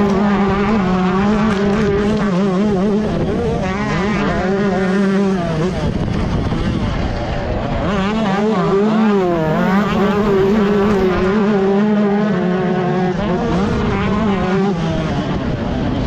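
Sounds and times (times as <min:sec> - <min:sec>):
two-stroke motorbike engine revving: 0:00.0 - 0:16.0.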